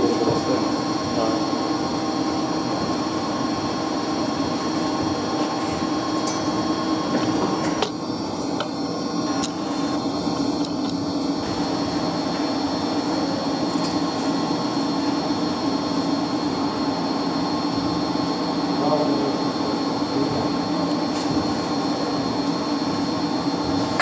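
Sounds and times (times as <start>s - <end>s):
circulation pump humming: 0.0s - 24.0s.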